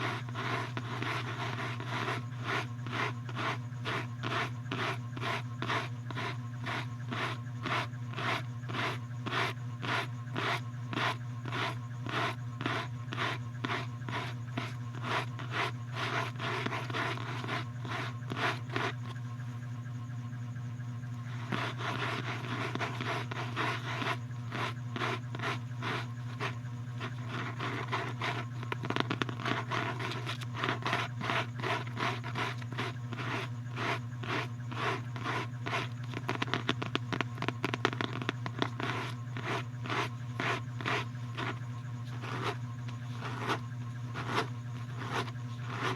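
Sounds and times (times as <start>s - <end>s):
scraping strokes on a surface: 0.0s - 19.2s, 21.3s - 45.9s
steady low hum: 0.0s - 45.9s.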